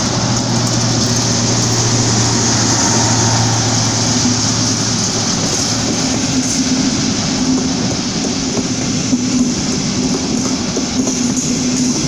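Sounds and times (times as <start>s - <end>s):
diesel locomotive engine drone: 0.0s - 12.0s
train noise: 0.0s - 12.0s.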